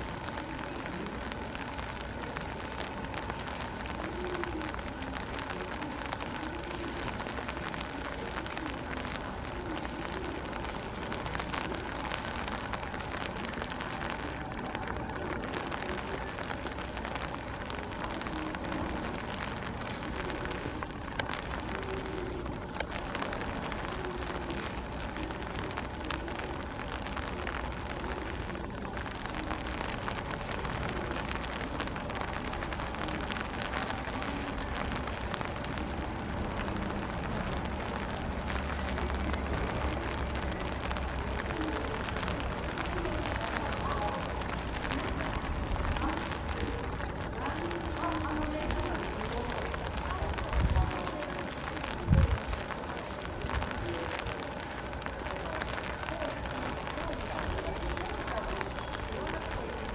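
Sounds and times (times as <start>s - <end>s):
hard rain pattering: 0.0s - 59.9s.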